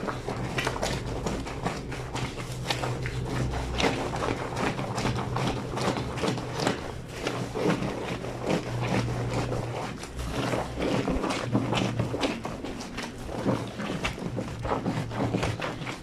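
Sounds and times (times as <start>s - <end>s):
wet blanket scrubbing: 0.0s - 16.0s.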